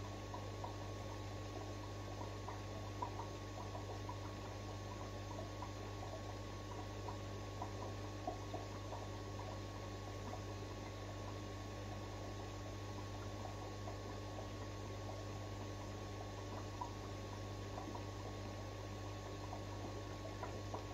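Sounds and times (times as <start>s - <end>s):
aquarium pump humming: 0.0s - 20.9s.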